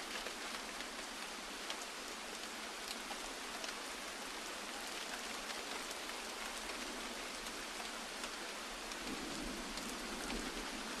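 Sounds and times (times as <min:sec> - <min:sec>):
rain drop ticks: 0:00.0 - 0:11.0
steady rain hiss: 0:00.0 - 0:11.0.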